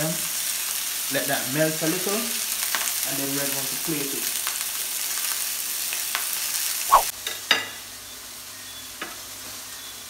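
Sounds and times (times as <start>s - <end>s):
burgers sizzling in a frying pan: 0.0s - 10.0s.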